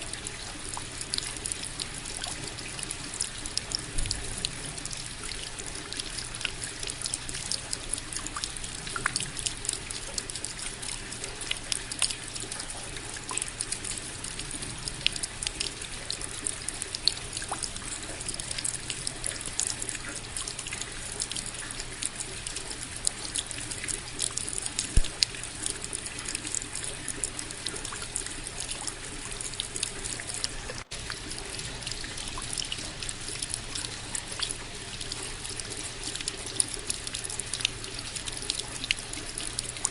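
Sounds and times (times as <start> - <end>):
close raindrops striking: 0.0 - 39.9
steady rain: 0.0 - 39.9.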